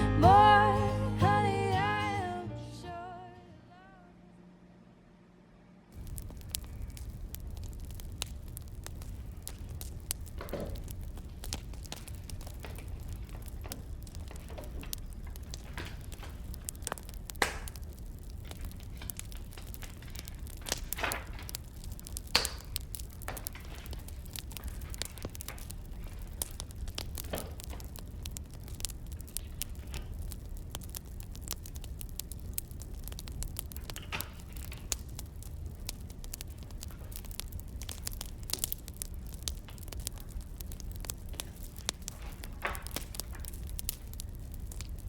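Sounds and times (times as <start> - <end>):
wood fire crackling: 0.0 - 2.5, 5.9 - 45.0.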